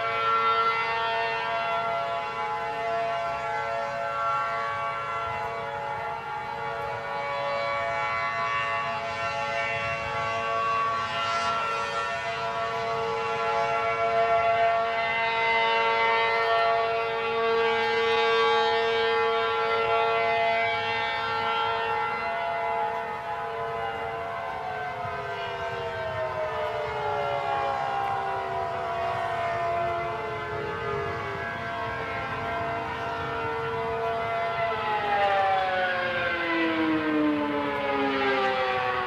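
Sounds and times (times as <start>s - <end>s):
civil defence siren steady tone: 0.0s - 39.0s.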